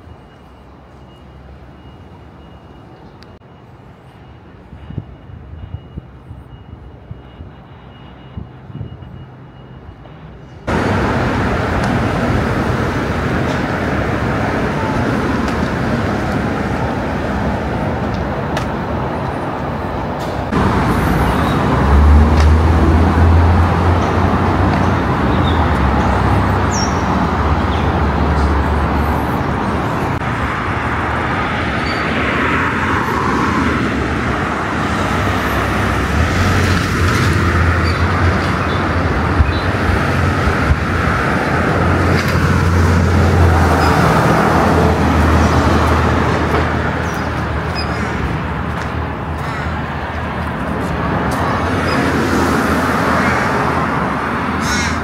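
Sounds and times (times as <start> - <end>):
heavy vehicle engine rumble: 0.0 - 55.0
road traffic passing: 0.0 - 55.0.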